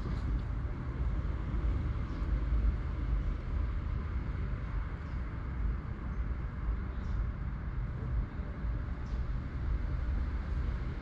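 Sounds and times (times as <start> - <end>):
outdoor rumble and hiss: 0.0 - 11.0.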